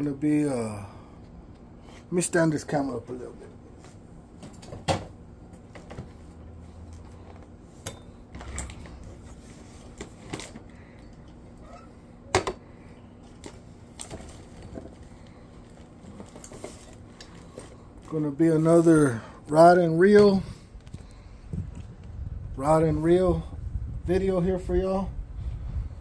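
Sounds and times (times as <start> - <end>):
faint room hum: 0.0 - 26.0.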